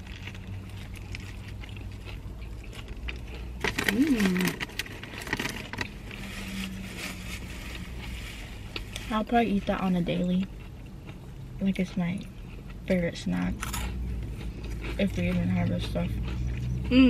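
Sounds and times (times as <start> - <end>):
low steady hum: 0.0 - 17.0
people chewing toasted sandwich: 0.0 - 17.0.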